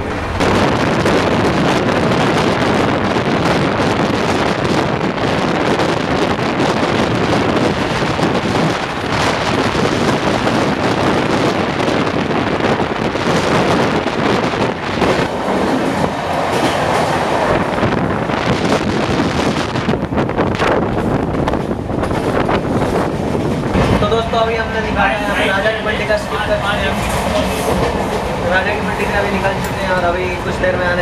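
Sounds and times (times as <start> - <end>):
train wheels on rails: 0.0 - 31.0
wind rushing: 0.0 - 31.0.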